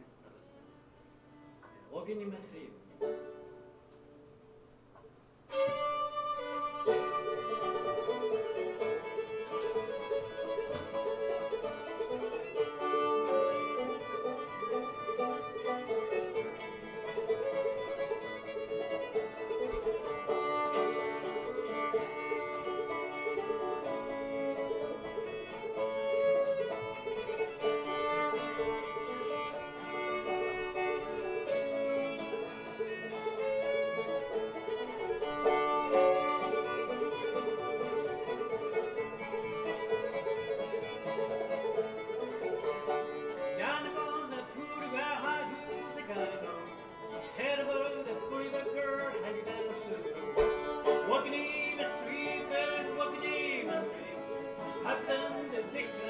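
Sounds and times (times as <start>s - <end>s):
fiddle playing: 0.0s - 3.8s, 5.4s - 56.0s
banjo playing: 3.0s - 3.9s, 5.5s - 56.0s.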